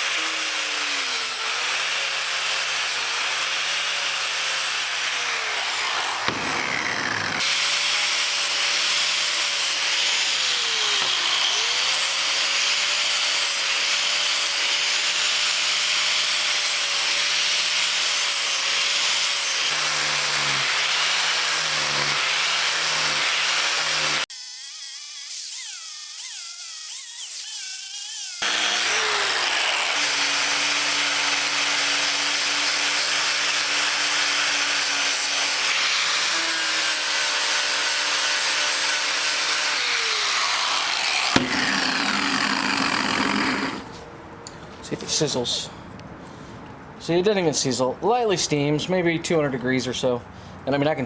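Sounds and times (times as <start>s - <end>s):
power grinder grinding steel: 0.0s - 44.0s.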